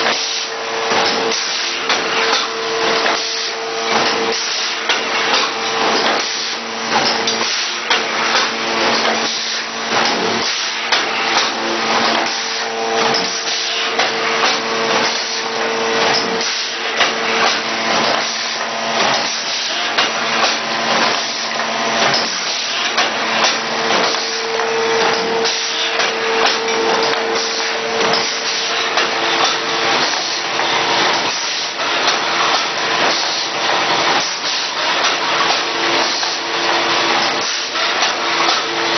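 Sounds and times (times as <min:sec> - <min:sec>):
machine clattering and clicking: 0:00.0 - 0:38.9
steady machine hum: 0:00.0 - 0:38.9.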